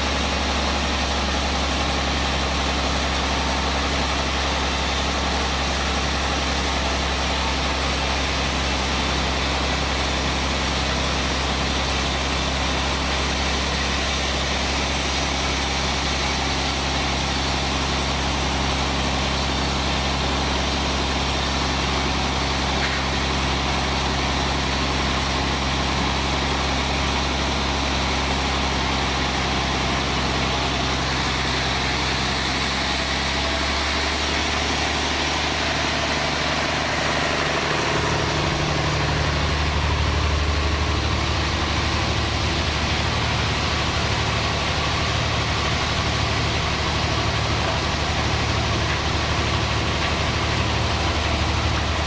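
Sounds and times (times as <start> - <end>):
band saw running: 0.0 - 52.0.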